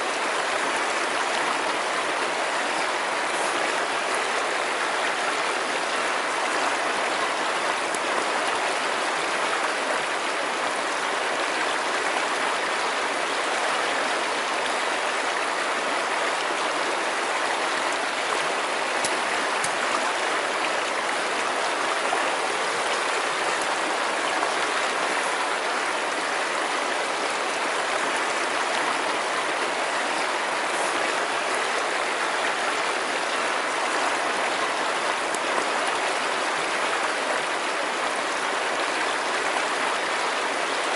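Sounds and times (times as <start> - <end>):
river water rushing over stones: 0.0 - 40.9.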